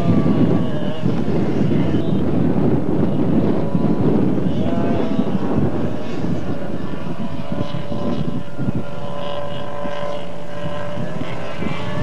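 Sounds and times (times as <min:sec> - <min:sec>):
car engine at high revs: 0:00.0 - 0:12.0
engine whine: 0:00.0 - 0:12.0
wind on microphone: 0:00.0 - 0:12.0.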